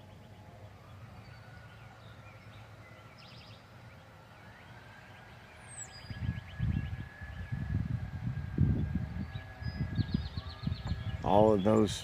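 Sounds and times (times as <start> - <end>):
low hum: 0.0 - 12.0
songbirds chirping: 0.0 - 12.0.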